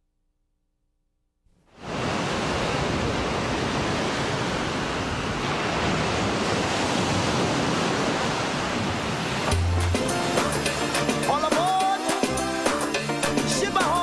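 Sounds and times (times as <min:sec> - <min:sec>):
ocean surf breaking on beach: 0:01.8 - 0:14.0.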